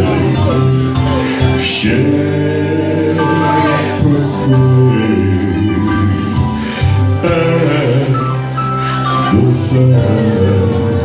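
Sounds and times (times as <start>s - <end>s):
live band playing: 0.0s - 11.0s
man singing into a microphone: 0.0s - 11.0s.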